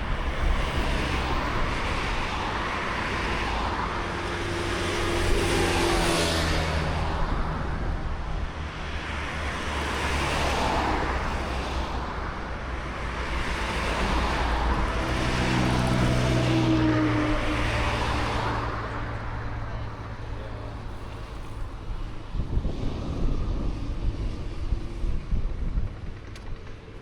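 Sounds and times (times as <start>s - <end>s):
steady engine hum: 0.0s - 27.0s
vehicles passing by: 0.0s - 27.0s.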